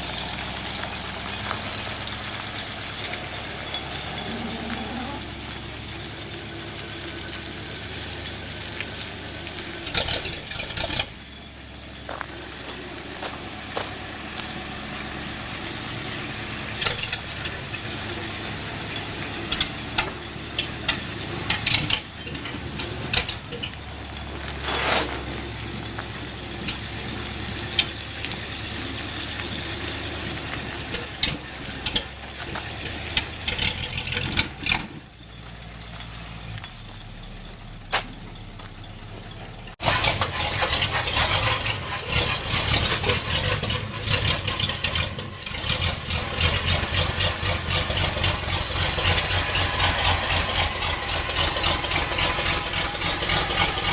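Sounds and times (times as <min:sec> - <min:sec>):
engine clicks and knocks: 0:00.0 - 0:53.9
truck engine running: 0:00.0 - 0:53.9.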